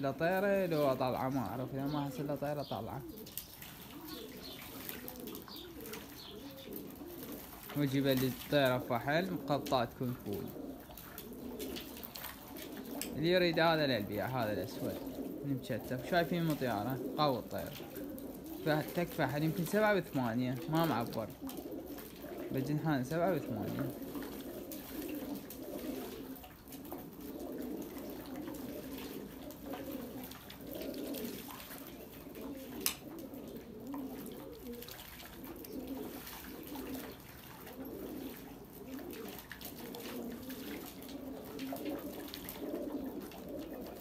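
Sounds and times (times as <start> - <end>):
pigeons cooing: 0.0 - 44.0.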